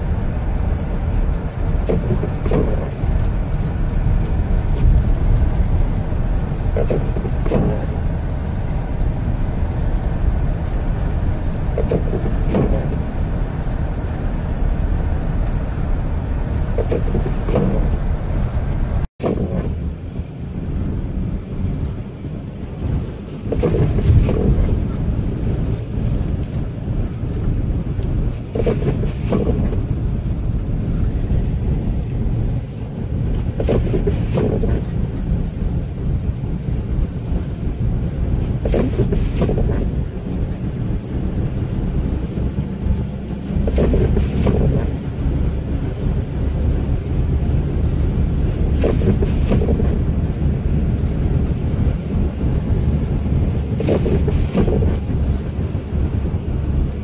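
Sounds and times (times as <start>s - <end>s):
vehicle rumble on snowy road: 0.0s - 57.0s
wind buffeting microphone: 0.0s - 57.0s
windscreen wipers swishing: 0.0s - 57.0s.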